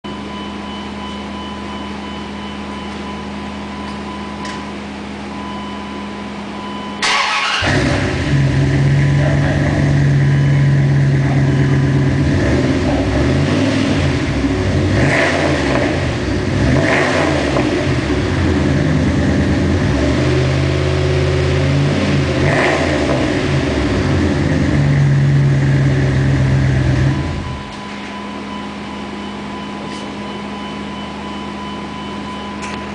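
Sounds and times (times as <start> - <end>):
truck engine idling and revving: 0.1 - 32.9.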